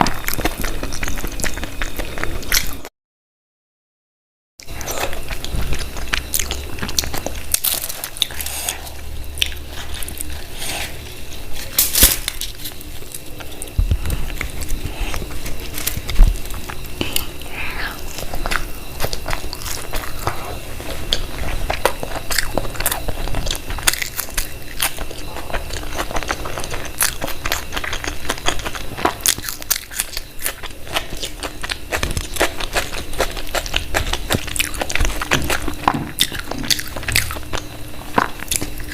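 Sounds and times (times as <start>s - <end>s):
food crunching: 0.0s - 2.9s, 4.6s - 38.9s
person chewing food: 0.0s - 2.9s, 4.6s - 38.9s.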